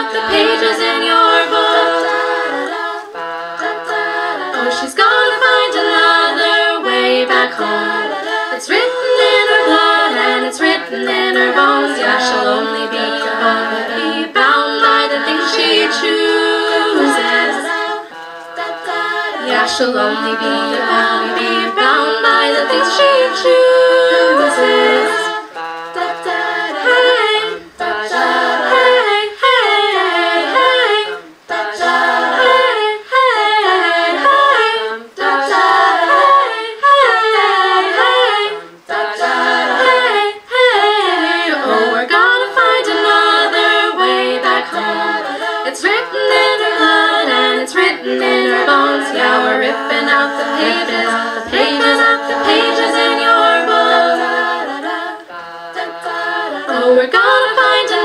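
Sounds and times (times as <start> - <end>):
women singing in harmony: 0.0 - 58.0.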